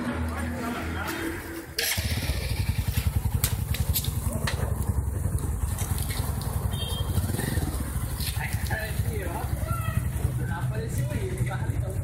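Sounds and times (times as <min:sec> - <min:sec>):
vehicle engine idling: 0:01.6 - 0:12.0.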